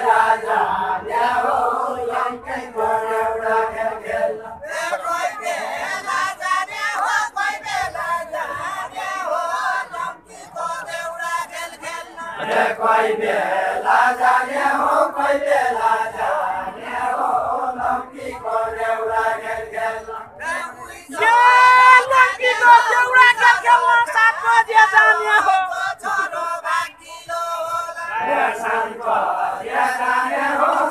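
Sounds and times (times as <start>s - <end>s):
group chanting folk song: 0.0s - 30.9s.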